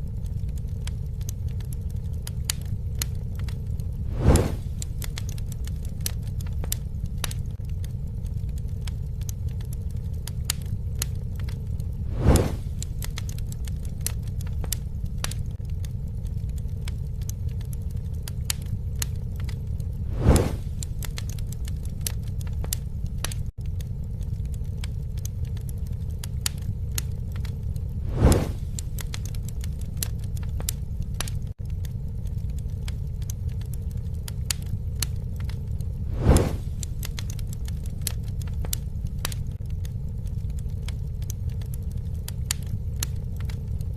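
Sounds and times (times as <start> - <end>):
campfire crackling and popping: 0.0 - 43.9
fire whoosh: 0.0 - 43.9.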